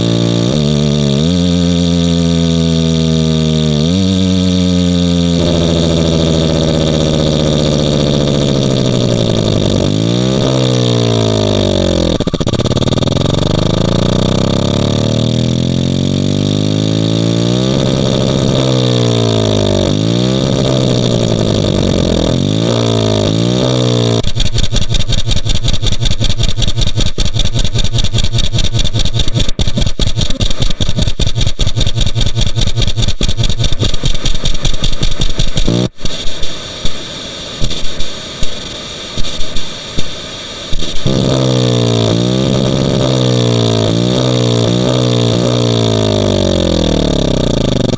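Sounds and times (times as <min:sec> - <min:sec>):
electronic engine-like drone: 0:00.0 - 0:47.9
rapid pulsing buzz: 0:00.0 - 0:47.9.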